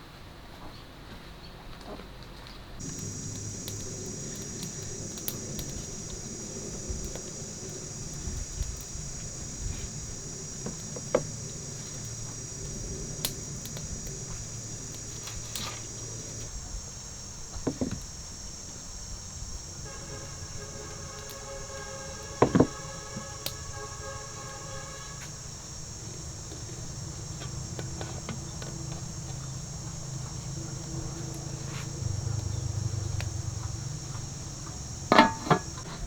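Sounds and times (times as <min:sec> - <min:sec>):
faint pitched hum: 0:02.8 - 0:36.0
insects chirring: 0:02.8 - 0:36.0.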